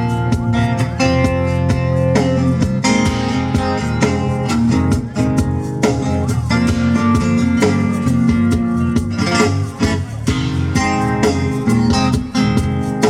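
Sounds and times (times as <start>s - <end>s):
guitar strumming: 0.0s - 13.0s
live band music: 0.0s - 13.0s.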